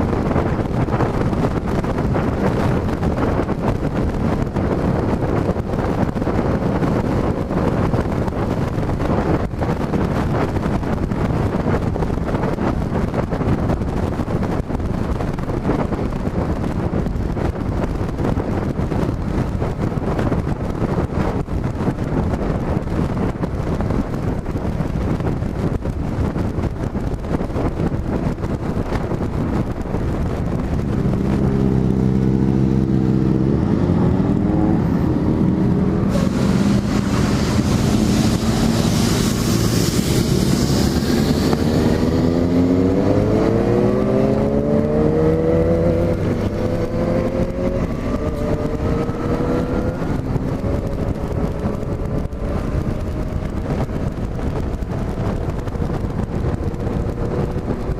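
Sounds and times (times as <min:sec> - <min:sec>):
motorcycle engine accelerating: 0:00.0 - 0:57.9
wind rushing over microphone: 0:00.0 - 0:57.9.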